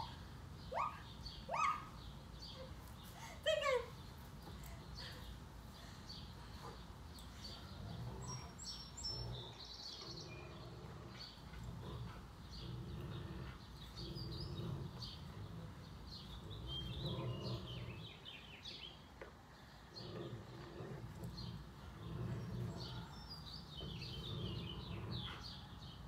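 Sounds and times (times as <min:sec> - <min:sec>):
birds chirping: 0:00.0 - 0:26.0
faint low hum: 0:00.0 - 0:26.0.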